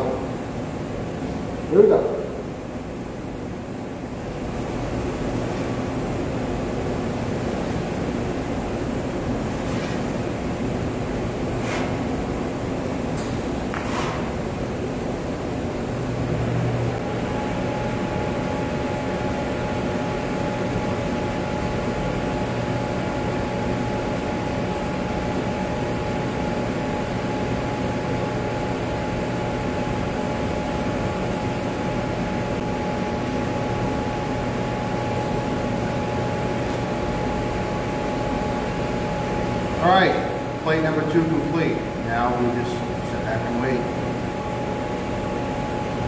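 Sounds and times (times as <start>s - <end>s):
machinery hum: 0.0s - 46.0s
welding arc hiss with high whine: 8.3s - 46.0s.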